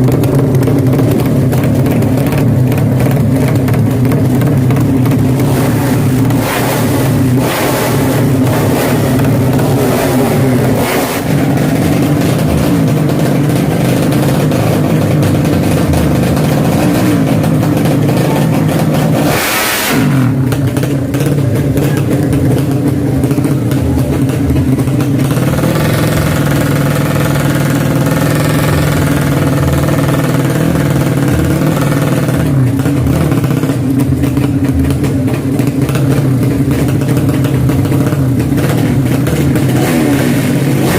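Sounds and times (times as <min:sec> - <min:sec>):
motorcycle engines revving loudly: 0:00.0 - 0:40.9.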